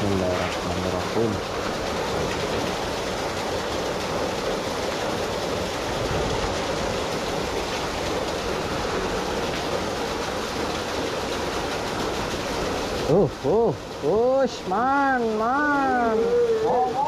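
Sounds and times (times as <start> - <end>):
falling rain: 0.0 - 17.0
floodwater rushing through ditch: 0.0 - 17.0.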